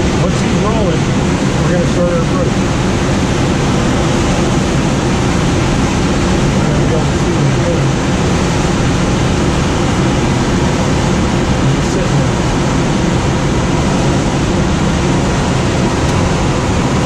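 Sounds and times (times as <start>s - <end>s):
air rushing over glider canopy: 0.0s - 17.0s.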